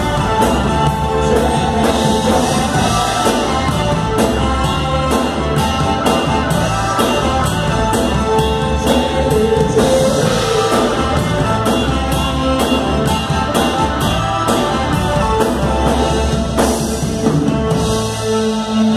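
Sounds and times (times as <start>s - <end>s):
bass guitar: 0.0s - 18.9s
drum kit: 0.0s - 18.9s
electric guitar: 0.0s - 18.9s.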